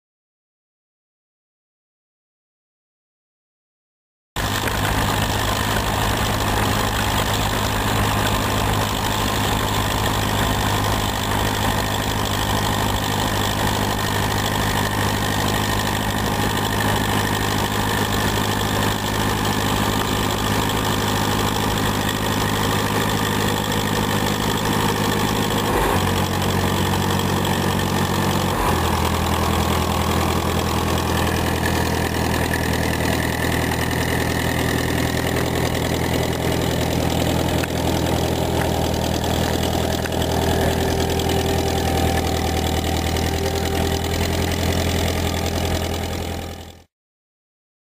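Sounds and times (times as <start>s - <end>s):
tractor diesel engine running: 4.4s - 46.9s.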